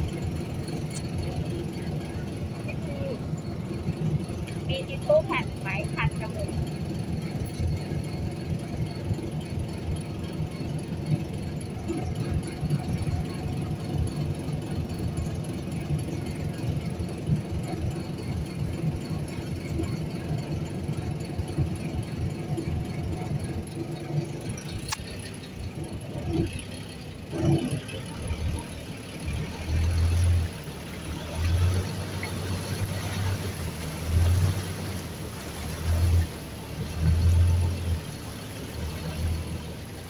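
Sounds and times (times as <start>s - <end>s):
boat engine humming: 0.0s - 40.0s.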